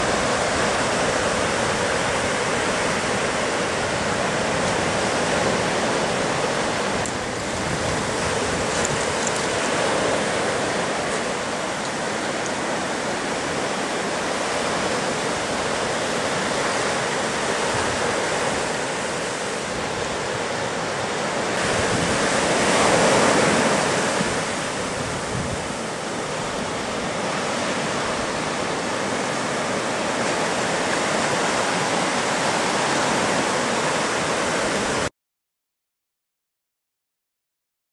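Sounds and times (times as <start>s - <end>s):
ocean waves breaking: 0.0s - 35.1s.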